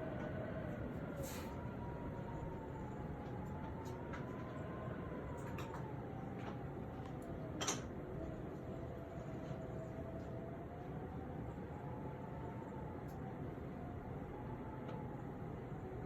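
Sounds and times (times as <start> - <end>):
wind whistling through gaps: 0.0 - 16.0.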